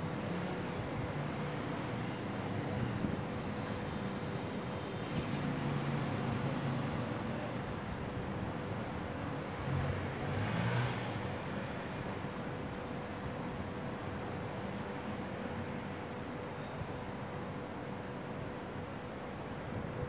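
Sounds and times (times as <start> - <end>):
city road traffic hum: 0.0 - 20.0.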